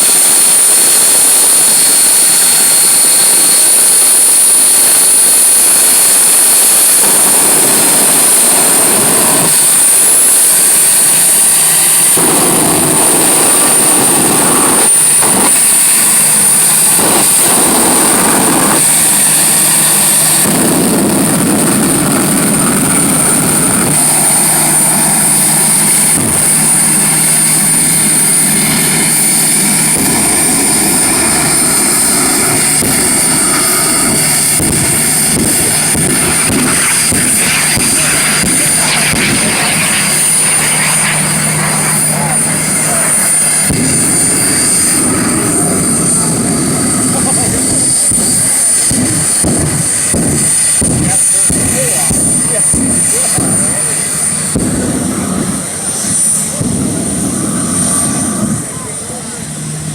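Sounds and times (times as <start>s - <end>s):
jet turbine whine: 0.0s - 59.9s
loud rushing noise: 0.0s - 59.9s.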